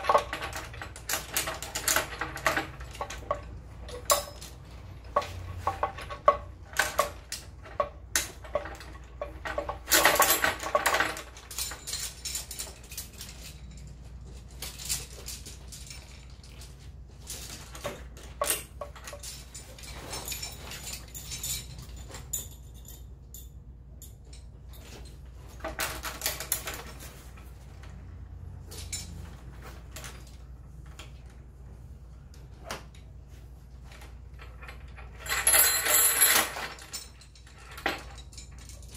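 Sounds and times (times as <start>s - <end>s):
rope rustling: 0.0s - 23.3s, 24.1s - 38.9s
carabiners clinking: 0.0s - 31.3s, 33.9s - 38.9s.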